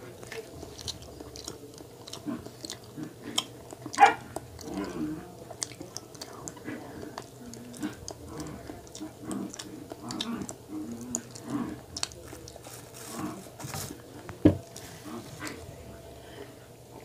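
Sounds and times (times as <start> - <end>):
chewing soft donut: 0.0 - 15.7.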